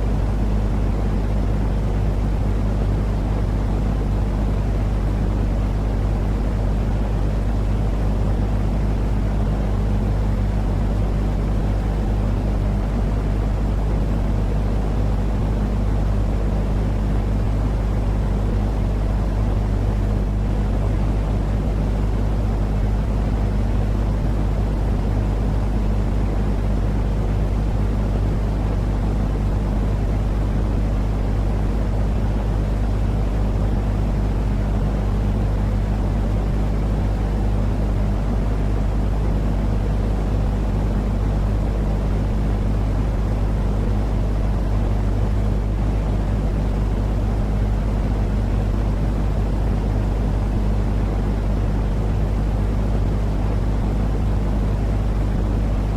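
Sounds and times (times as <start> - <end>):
steady low rumbling hum: 0.0 - 55.9.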